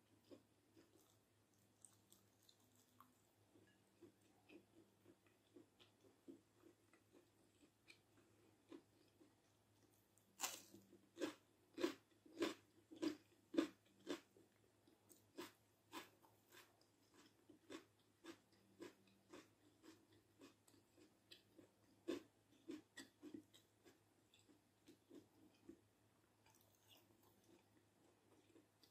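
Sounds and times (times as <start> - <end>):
crunchy chewing of pepper: 0.2 - 25.8.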